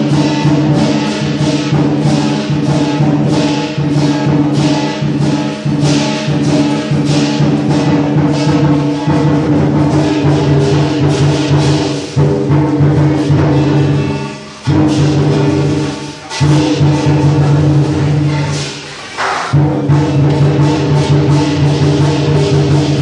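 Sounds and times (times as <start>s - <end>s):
cymbals clashing: 0.0s - 23.0s
fast loud drumming: 0.0s - 23.0s.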